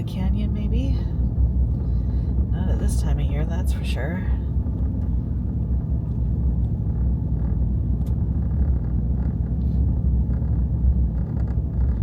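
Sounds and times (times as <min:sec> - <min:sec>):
faint rattles and knocks: 0:00.0 - 0:12.0
road rumble inside vehicle: 0:00.0 - 0:12.0.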